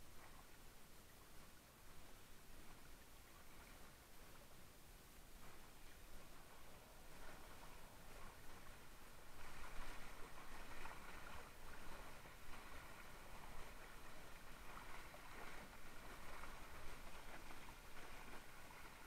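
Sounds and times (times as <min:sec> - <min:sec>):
water rushing along board hull: 0:00.0 - 0:19.0.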